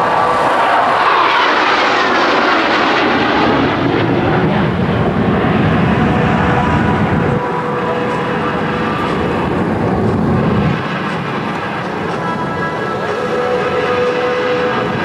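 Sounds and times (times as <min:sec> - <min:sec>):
jets roaring past: 0:00.0 - 0:15.0.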